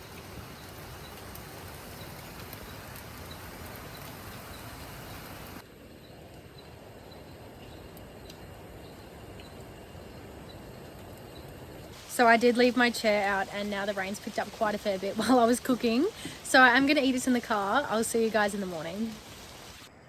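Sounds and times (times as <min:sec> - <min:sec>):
steady rain falling: 0:00.0 - 0:19.9.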